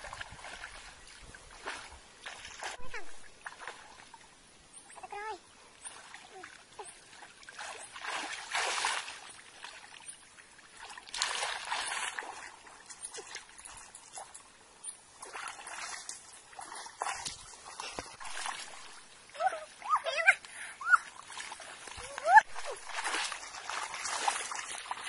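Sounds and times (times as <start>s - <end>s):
water splashing and sloshing: 0.0s - 25.0s.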